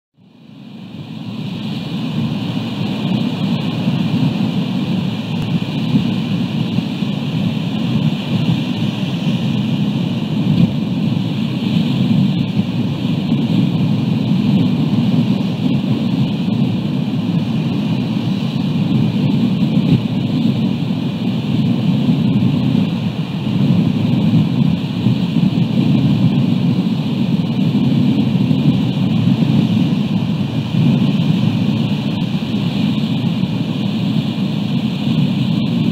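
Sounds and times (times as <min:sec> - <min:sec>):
wind buffeting microphone: 0:00.3 - 0:35.9.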